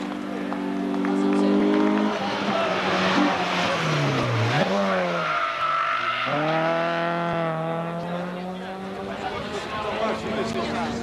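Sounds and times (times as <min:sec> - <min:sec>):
rally car engine: 0:00.0 - 0:11.0.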